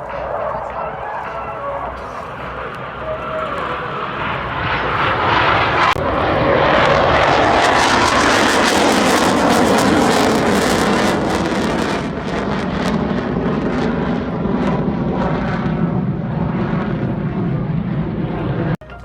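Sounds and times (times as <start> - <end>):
airplane engine flying past: 0.0 - 18.8.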